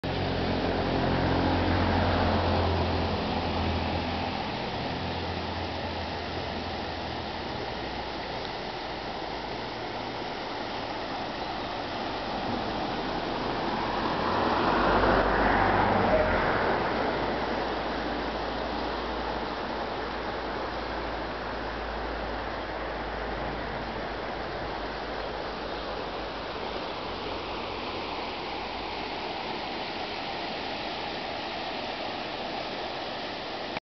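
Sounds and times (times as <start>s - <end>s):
river rushing over rocks: 0.0s - 33.8s.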